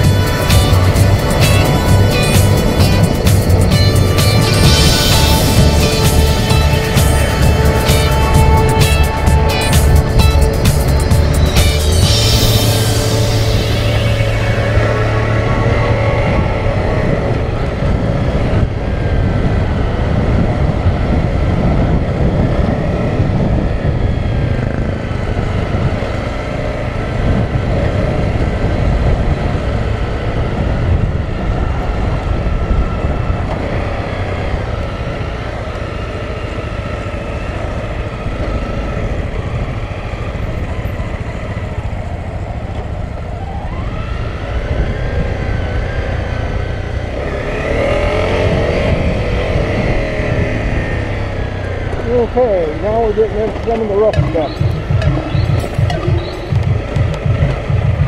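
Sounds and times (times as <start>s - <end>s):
motorcycle engine: 0.0s - 58.0s
wind rumble on microphone: 0.0s - 58.0s.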